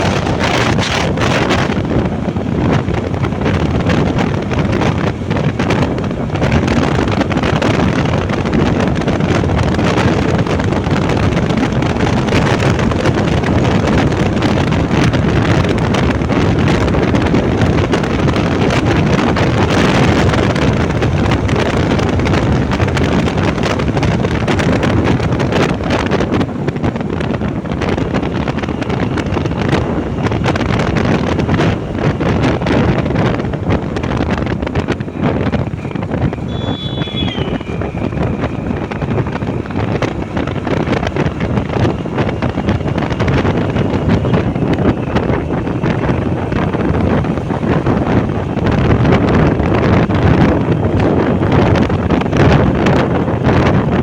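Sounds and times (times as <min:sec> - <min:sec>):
motorbike running: 0:00.0 - 0:54.0
wind buffeting microphone: 0:00.0 - 0:54.0.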